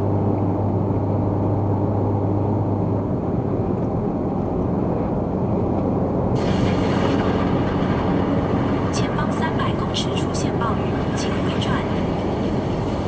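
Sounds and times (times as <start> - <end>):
car engine and tyre rumble: 0.0 - 13.0
low hum: 0.0 - 13.0.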